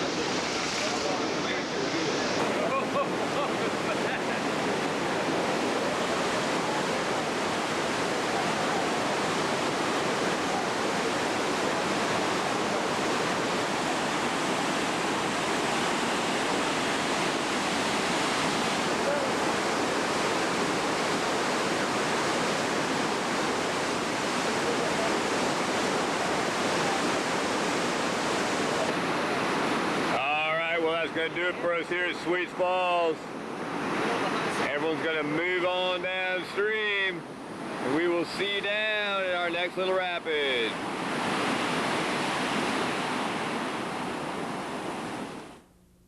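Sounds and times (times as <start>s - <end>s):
river rushing over falls: 0.0s - 45.4s.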